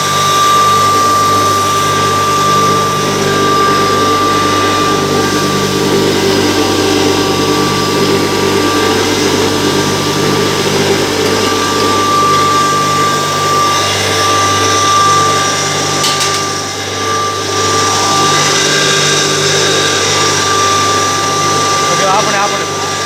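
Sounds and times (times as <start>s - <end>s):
mill motor hum with whine: 0.0s - 23.0s.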